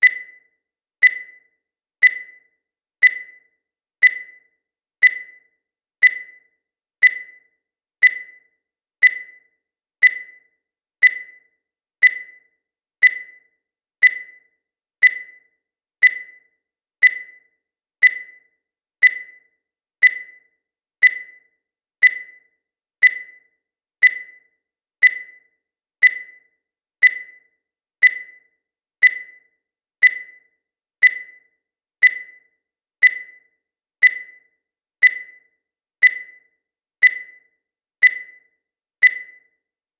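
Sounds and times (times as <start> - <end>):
timer beeping: 0.0 - 39.8.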